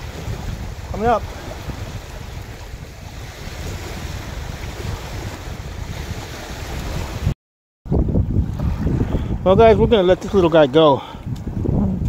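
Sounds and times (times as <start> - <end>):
waves washing against rocks: 0.0 - 7.3, 8.2 - 12.0
wind buffeting microphone: 0.0 - 12.0.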